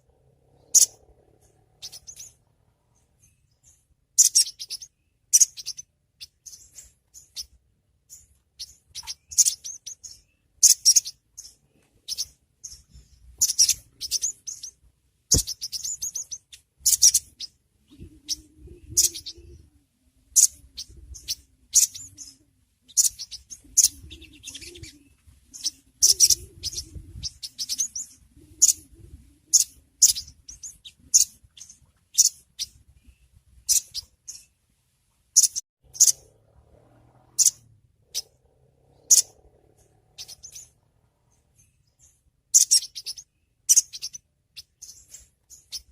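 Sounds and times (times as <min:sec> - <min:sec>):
bird chirping and twittering: 0:00.0 - 0:34.6, 0:35.4 - 0:45.9.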